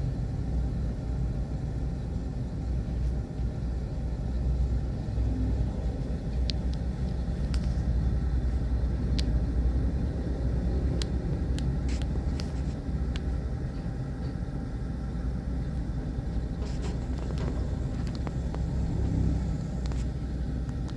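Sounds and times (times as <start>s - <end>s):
diesel engine rumbling: 0.0s - 20.9s.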